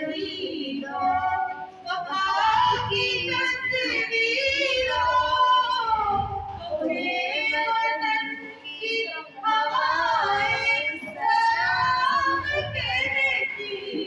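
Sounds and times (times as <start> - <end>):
girl singing into a microphone: 0.0 - 14.0.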